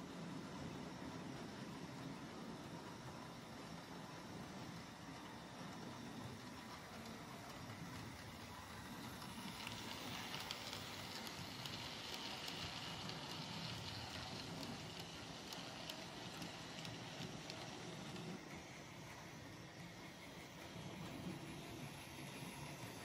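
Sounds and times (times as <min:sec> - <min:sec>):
model train wheels rattling on track: 0:04.0 - 0:23.0.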